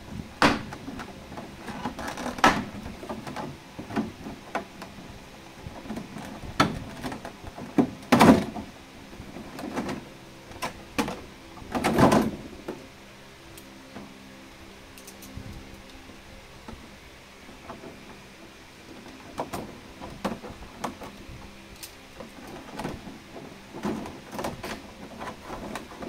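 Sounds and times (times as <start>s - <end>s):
plastic crackling and rustling: 0.0s - 12.9s, 14.9s - 26.0s.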